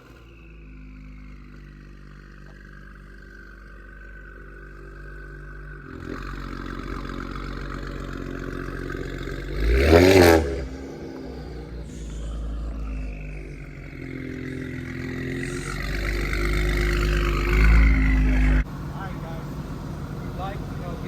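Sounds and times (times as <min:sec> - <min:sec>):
car engine idling: 0:00.0 - 0:21.0
engine revving: 0:00.0 - 0:21.0.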